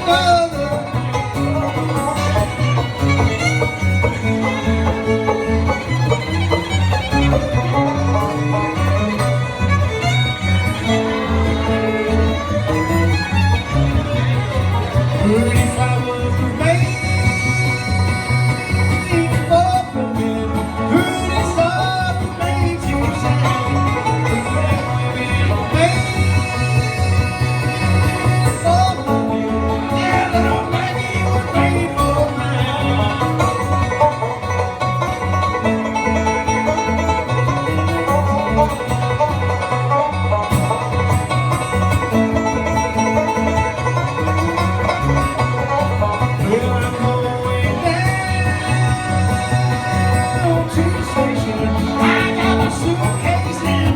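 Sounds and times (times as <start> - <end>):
banjo picking: 0.0 - 53.9
bass rhythm: 0.0 - 53.9
bluegrass band playing: 0.0 - 53.9
guitar picking: 0.0 - 53.9.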